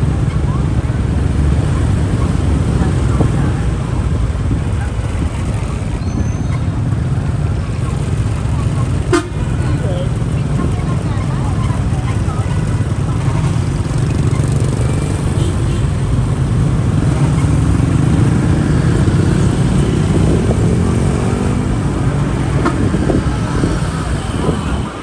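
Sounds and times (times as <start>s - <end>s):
motorbike engines rumbling: 0.0s - 25.0s.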